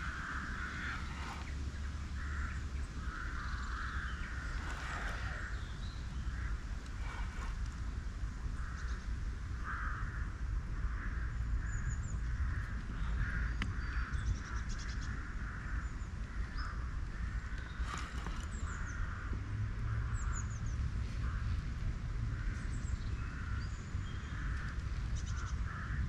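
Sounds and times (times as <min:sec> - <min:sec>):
harsh cawing bird calls: 0:00.0 - 0:21.7, 0:22.3 - 0:26.0
steady low rumble: 0:00.0 - 0:26.0.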